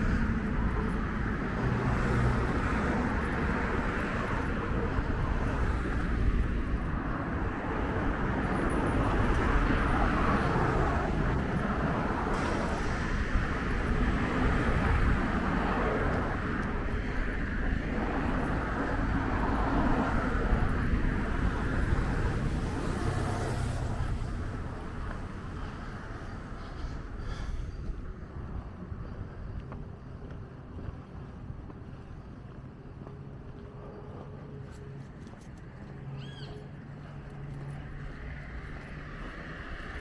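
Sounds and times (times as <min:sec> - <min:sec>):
passing vehicles rumbling: 0:00.0 - 0:40.0.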